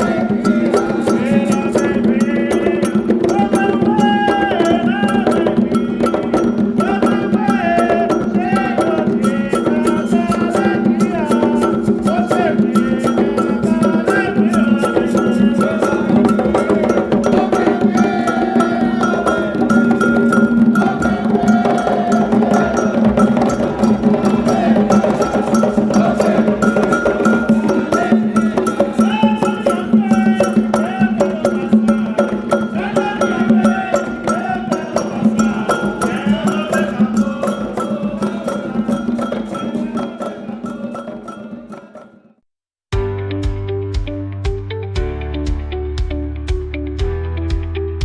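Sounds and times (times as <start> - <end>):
wavering melody: 0.0 - 42.2
rapid hand-drum strokes: 0.0 - 42.3.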